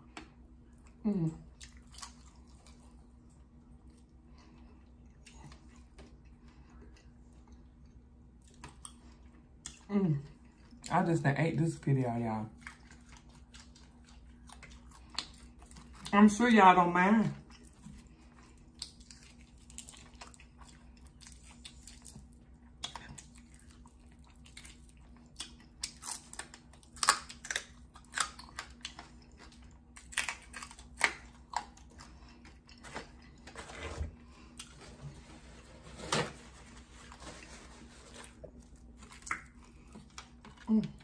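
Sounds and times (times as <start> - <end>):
chewing and crunching fried fish: 0.0 - 35.3, 36.6 - 41.0.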